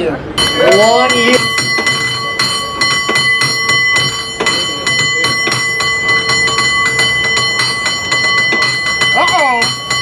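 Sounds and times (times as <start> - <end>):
cable car bell rung rapidly: 0.4 - 10.0.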